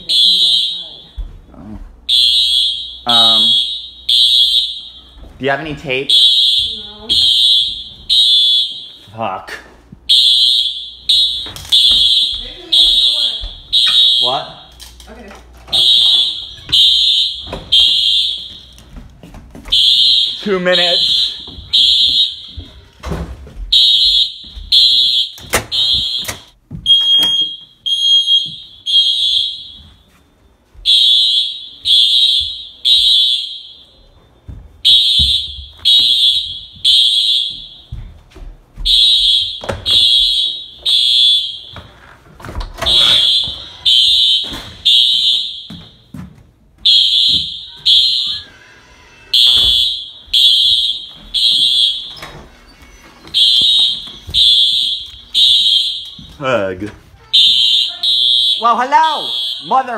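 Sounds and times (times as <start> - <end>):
fire alarm beeping: 0.0 - 1.3, 2.1 - 9.3, 10.1 - 15.0, 15.7 - 19.0, 19.6 - 38.2, 38.8 - 59.9.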